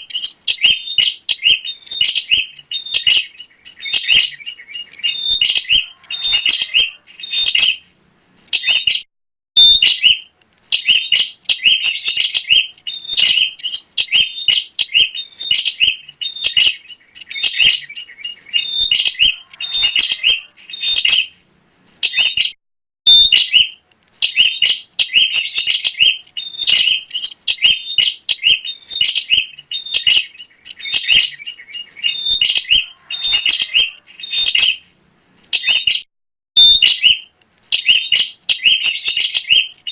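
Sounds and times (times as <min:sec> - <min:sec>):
bird chirping rapidly: 0:00.0 - 0:36.0, 0:36.6 - 0:39.9.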